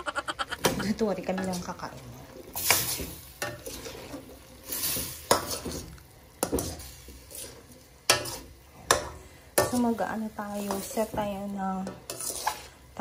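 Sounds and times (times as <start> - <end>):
spoon scraping a wok: 0.5 - 13.0.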